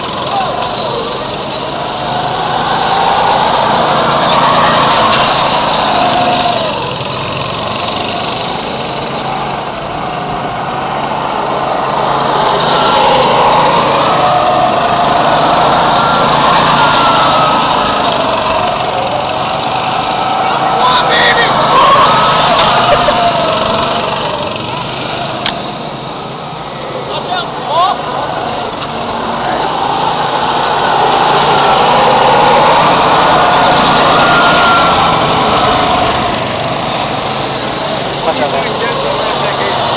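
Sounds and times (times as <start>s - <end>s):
go-kart engines buzzing: 0.0s - 39.9s.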